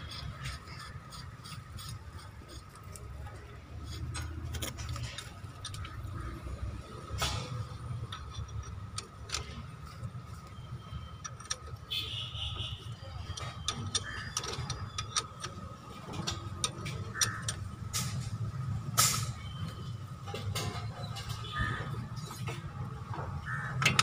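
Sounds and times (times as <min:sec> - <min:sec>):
spanner clicking on metal: 0:00.0 - 0:21.4, 0:23.5 - 0:24.0.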